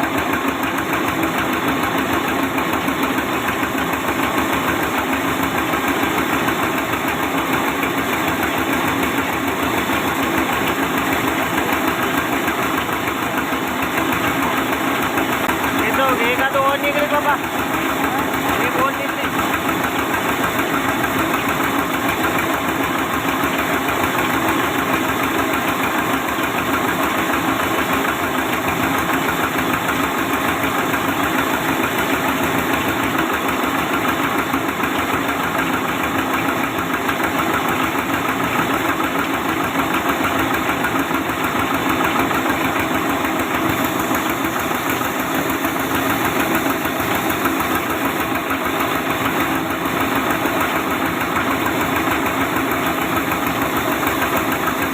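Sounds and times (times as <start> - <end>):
sawmill saw droning: 0.0 - 54.9.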